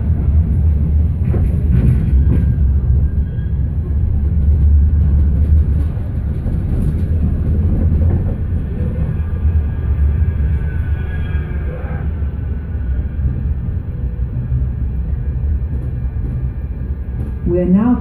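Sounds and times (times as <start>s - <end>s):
tram wheels rumbling on rail: 0.0s - 18.0s.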